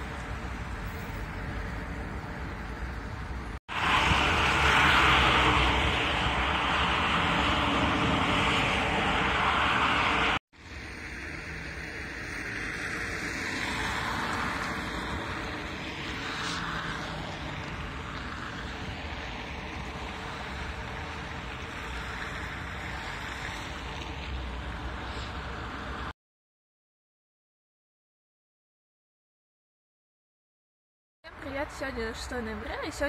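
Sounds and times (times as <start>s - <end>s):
cars passing on street: 0.0s - 26.2s, 31.3s - 33.0s.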